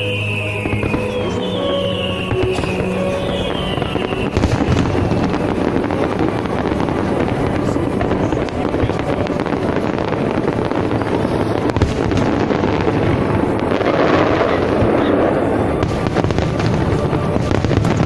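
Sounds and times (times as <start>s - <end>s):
falling firework whistle: 0.0s - 18.0s
fireworks crackling and rumbling: 0.0s - 18.0s.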